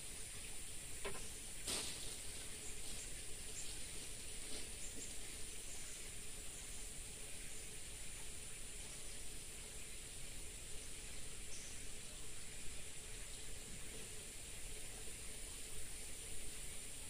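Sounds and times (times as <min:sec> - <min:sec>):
faint outdoor hiss: 0:00.0 - 0:17.0
insect chorus buzzing: 0:00.0 - 0:17.0.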